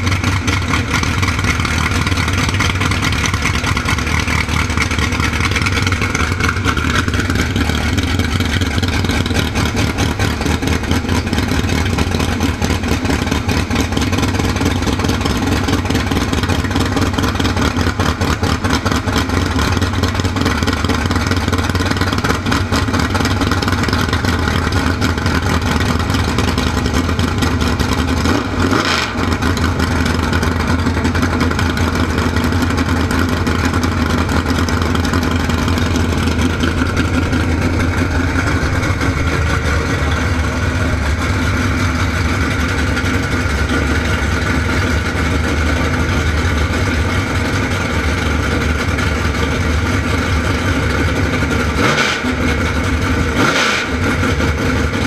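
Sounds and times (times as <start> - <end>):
racing engine running: 0.0 - 55.0.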